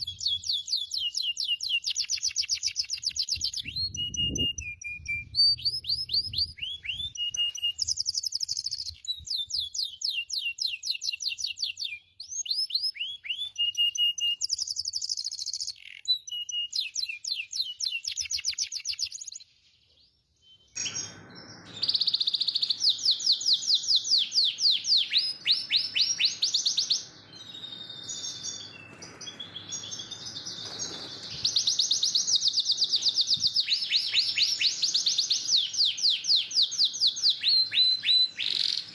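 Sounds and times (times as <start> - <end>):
canary singing: 0.0 - 19.5, 20.4 - 38.9.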